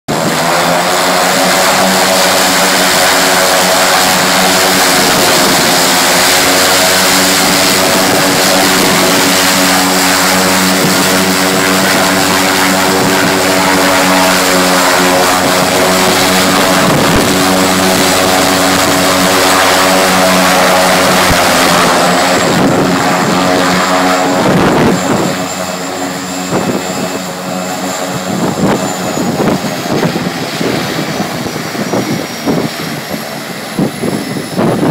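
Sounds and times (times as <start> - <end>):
propeller engine droning: 0.0 - 34.9
high engine whine: 0.1 - 34.9.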